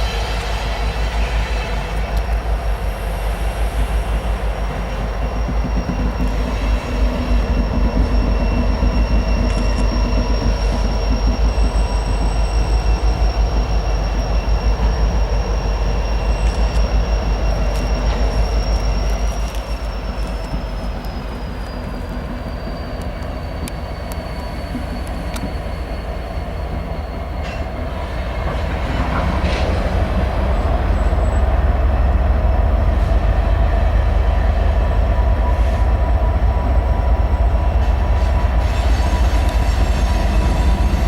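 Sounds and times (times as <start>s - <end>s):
high wheel squeal: 0.0s - 41.0s
train wheels over rail joints: 0.0s - 41.0s.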